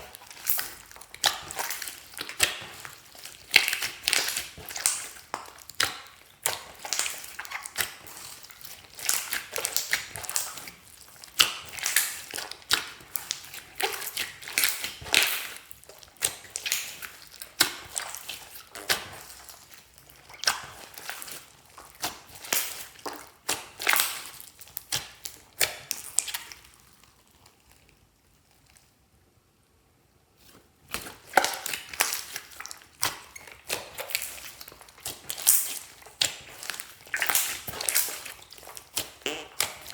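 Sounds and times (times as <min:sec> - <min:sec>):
slime squelching and popping: 0:00.0 - 0:28.9, 0:30.4 - 0:39.9.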